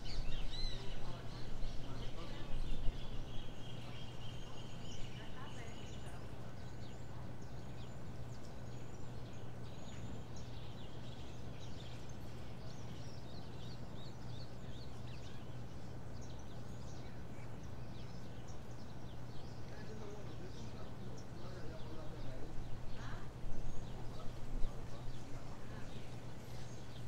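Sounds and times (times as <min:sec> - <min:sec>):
small birds chirping: 0:00.0 - 0:27.0
steady low hum: 0:00.0 - 0:27.0.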